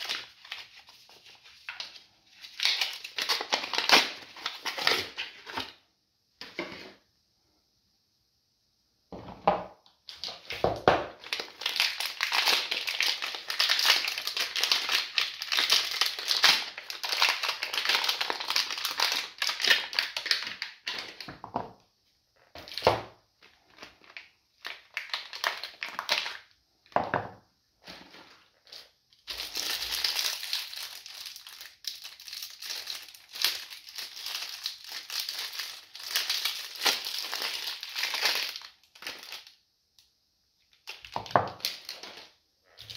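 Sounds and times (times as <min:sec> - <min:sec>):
plastic wrapping crinkling: 0:00.0 - 0:05.8, 0:10.1 - 0:21.4, 0:22.6 - 0:26.6, 0:27.8 - 0:39.6, 0:40.6 - 0:42.9.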